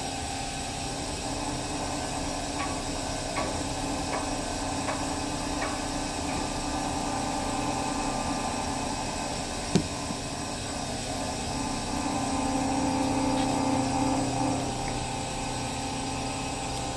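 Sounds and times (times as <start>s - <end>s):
machinery humming: 0.0s - 16.9s.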